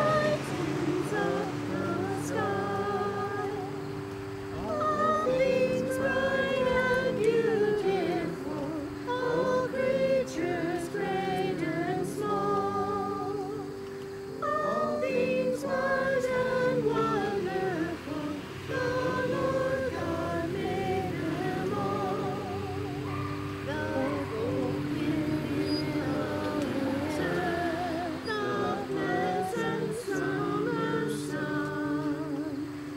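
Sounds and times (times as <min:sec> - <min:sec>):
congregation singing a hymn: 0:00.0 - 0:32.9.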